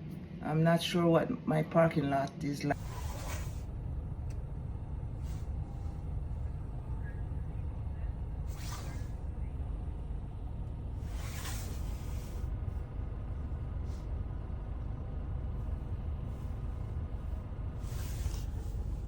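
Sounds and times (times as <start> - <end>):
car road and engine rumble: 2.7 - 19.0.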